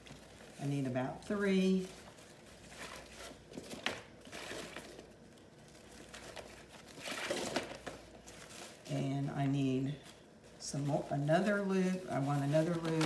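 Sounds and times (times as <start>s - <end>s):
fabric ribbon rustling: 0.0s - 13.0s.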